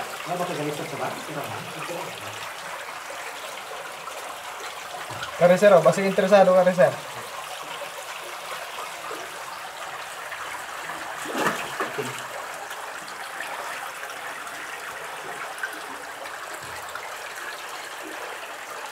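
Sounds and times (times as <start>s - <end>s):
water trickling in cave: 0.0s - 18.9s.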